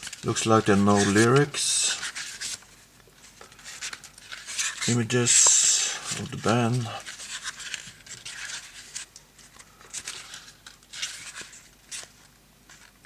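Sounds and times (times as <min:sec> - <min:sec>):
paper pages being turned: 0:00.0 - 0:13.0.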